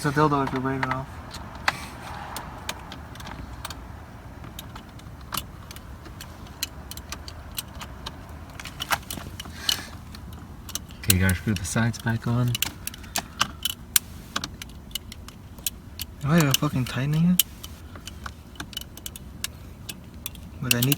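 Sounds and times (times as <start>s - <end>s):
hand tools clicking and clinking: 0.0s - 20.9s.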